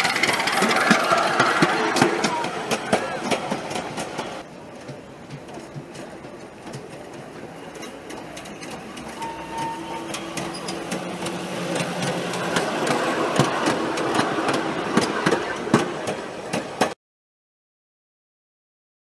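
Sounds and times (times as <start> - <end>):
miniature train motor running: 0.0 - 4.4, 5.5 - 16.7
wheels clicking over track: 0.0 - 17.0.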